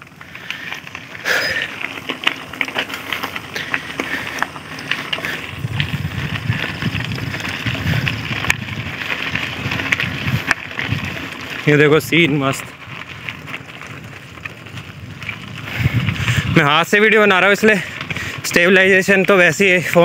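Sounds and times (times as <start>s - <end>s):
bike clicks and rattles: 0.0s - 20.0s.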